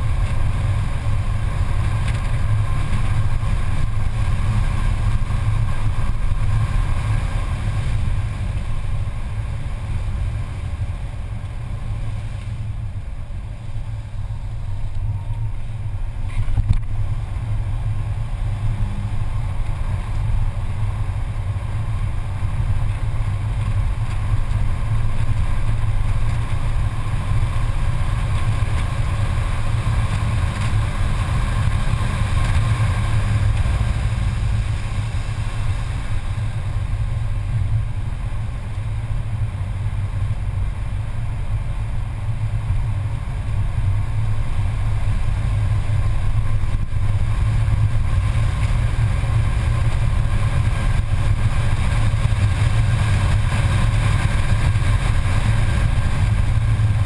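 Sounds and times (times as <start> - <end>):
car engine running hard: 0.0 - 57.0
tyre and wind noise: 0.0 - 57.0.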